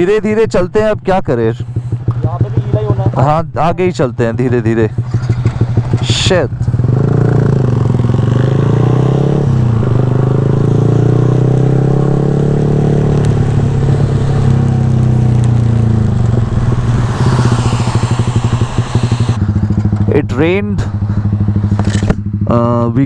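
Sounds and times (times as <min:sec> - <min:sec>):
motorcycle engine riding: 0:00.0 - 0:23.0.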